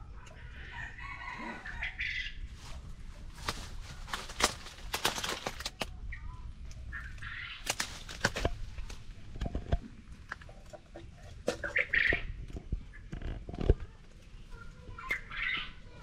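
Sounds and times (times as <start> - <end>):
birds chirping and calling: 0.0 - 2.8, 3.4 - 9.1, 10.4 - 13.4, 14.2 - 16.0.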